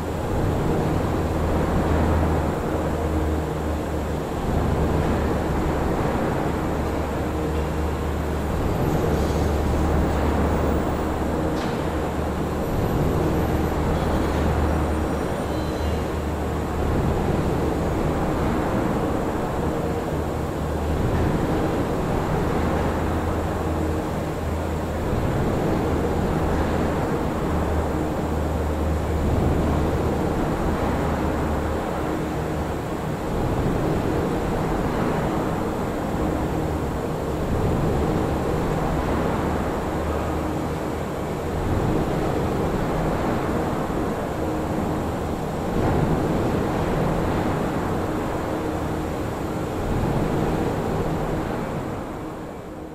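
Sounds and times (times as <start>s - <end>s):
machinery rumble and hum: 0.0s - 52.9s.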